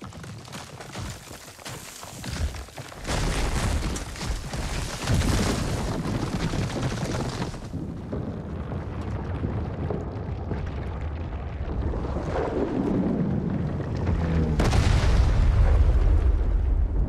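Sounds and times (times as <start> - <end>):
deep stone crumbling rumble: 0.0 - 17.0.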